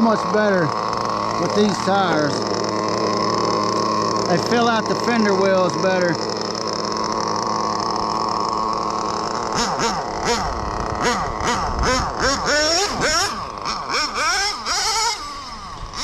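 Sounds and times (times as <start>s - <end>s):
small nitro engine revving: 0.0s - 16.0s.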